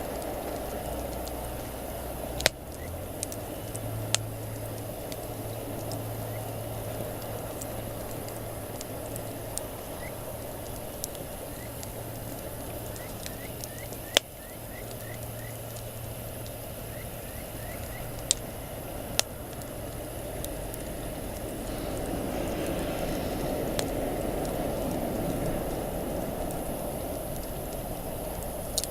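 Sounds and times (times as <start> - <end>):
campfire hissing and popping: 0.0 - 28.9.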